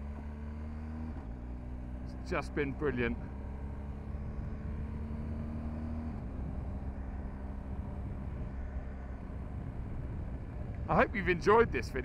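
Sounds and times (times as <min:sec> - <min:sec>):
motorcycle engine running: 0:00.0 - 0:11.1
road noise: 0:00.0 - 0:12.0.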